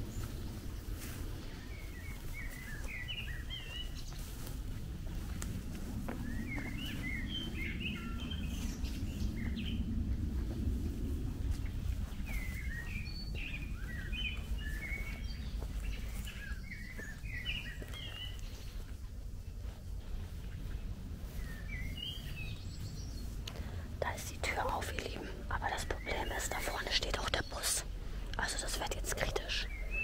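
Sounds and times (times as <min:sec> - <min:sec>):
low outdoor rumble: 0:00.0 - 0:30.0
songbird chirping: 0:00.0 - 0:30.0.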